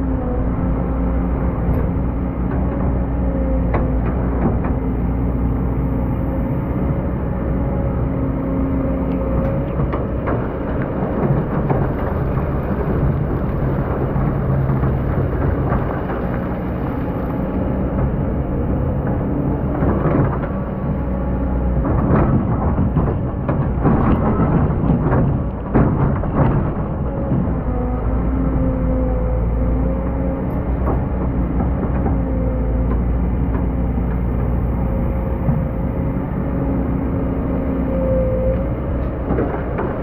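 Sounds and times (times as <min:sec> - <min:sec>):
excavator diesel engine: 0:00.0 - 0:40.0.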